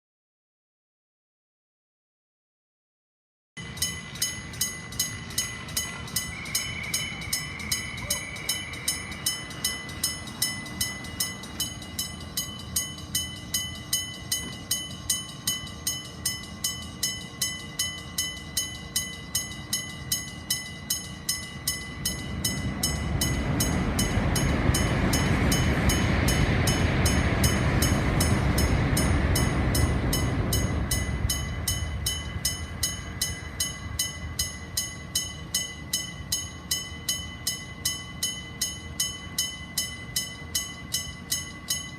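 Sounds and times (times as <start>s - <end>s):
level crossing warning bell: 3.6s - 41.9s
train rumble: 3.6s - 41.9s.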